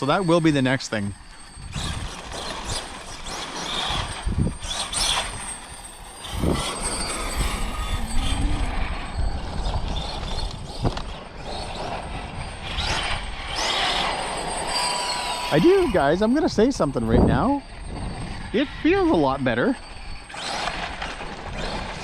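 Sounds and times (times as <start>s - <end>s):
electric motor whining: 0.0s - 22.0s
tire noise on pavement: 0.0s - 22.0s.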